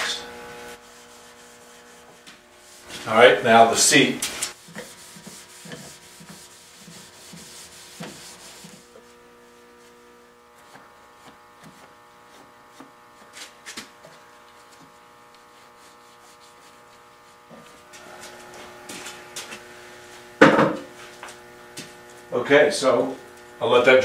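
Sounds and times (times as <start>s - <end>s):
pad rubbing wood: 0.1s - 21.2s.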